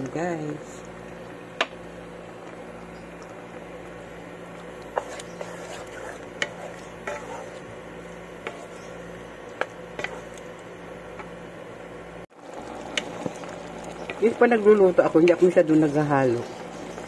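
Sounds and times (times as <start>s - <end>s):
sauce simmering hiss: 0.3s - 17.0s.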